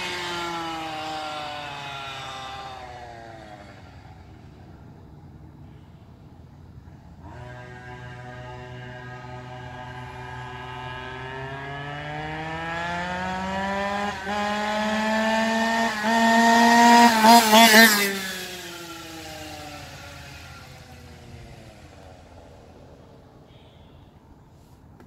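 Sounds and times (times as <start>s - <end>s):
small two-stroke engine passing by: 0.0s - 24.4s.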